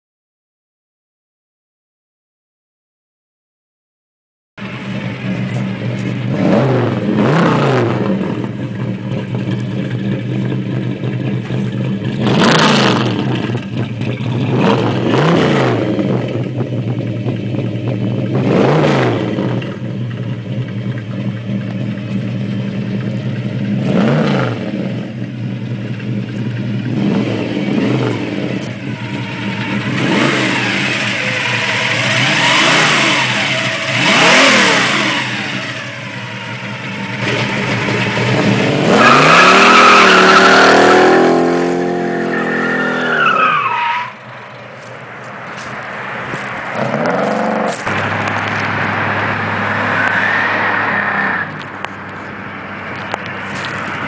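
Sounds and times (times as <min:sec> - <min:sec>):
car engine idling and revving: 0:04.6 - 0:54.0.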